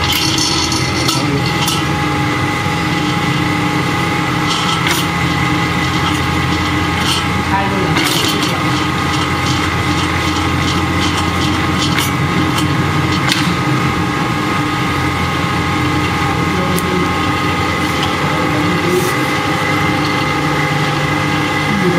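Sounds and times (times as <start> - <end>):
food mixer motor humming: 0.0 - 21.9.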